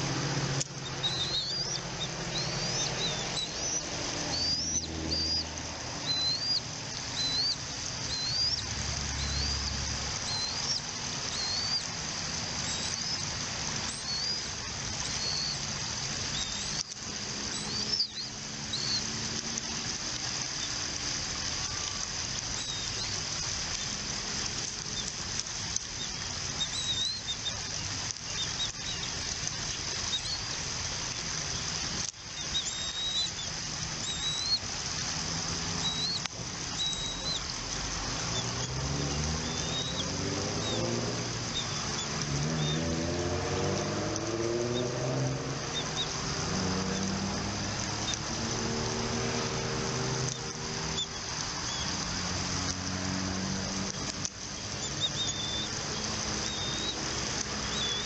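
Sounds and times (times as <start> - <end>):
low wavering engine hum: 0.0 - 25.9, 26.9 - 58.0
birds chirping: 0.0 - 58.0
steady high hiss: 0.0 - 58.0.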